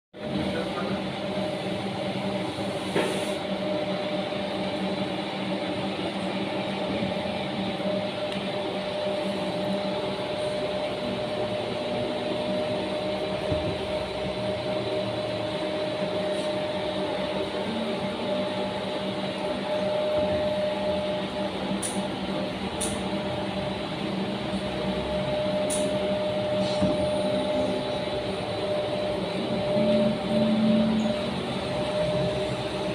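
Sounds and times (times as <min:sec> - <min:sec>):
printer mechanical whirr: 0:00.2 - 0:32.9.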